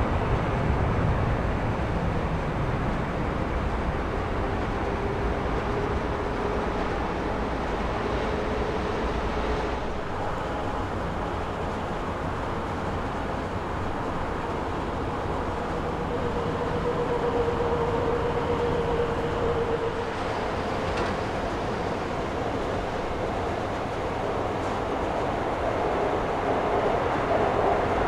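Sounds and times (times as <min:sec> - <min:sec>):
jet engines rumbling and whining: 0:00.0 - 0:28.0.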